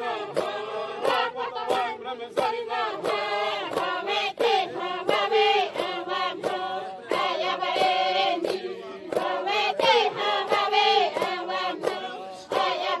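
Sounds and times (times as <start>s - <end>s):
sharp rhythmic beat: 0.0s - 13.0s
women chanting in unison: 0.0s - 13.0s.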